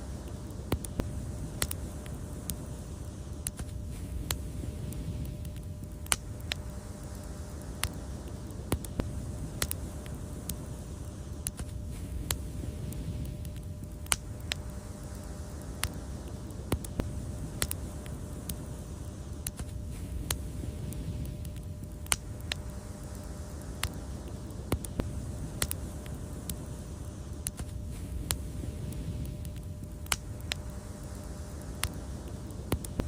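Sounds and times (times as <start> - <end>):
fire pops and snaps: 0.0 - 33.0
wood fire crackling: 0.0 - 33.0.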